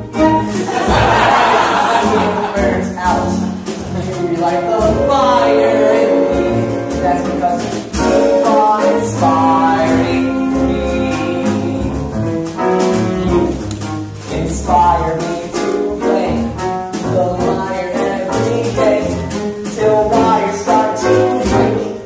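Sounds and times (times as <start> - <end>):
theatre orchestra playing: 0.0 - 22.0
person singing: 2.0 - 12.2, 14.3 - 22.0.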